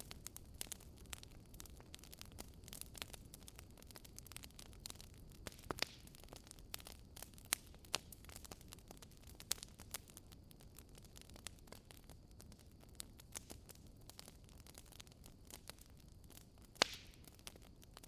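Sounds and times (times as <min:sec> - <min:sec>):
logs crackling and popping: 0:00.0 - 0:18.0
low hiss of flames: 0:00.0 - 0:18.0.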